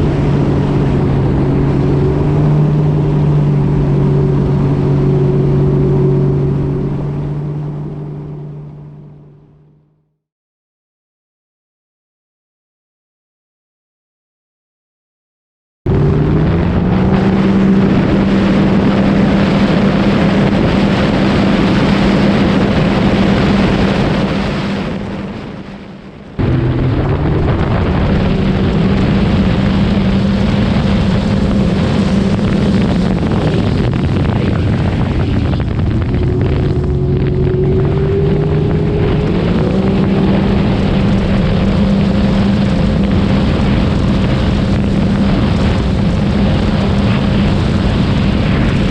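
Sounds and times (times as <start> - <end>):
jet ski engine running hard: 0.0 - 10.0, 15.9 - 48.9.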